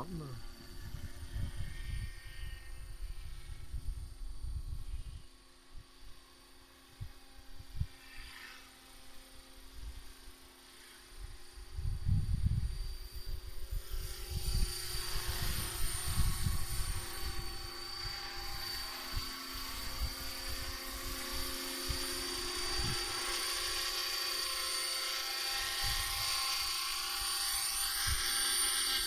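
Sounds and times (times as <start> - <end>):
model helicopter whine and rotor: 0.0 - 29.0.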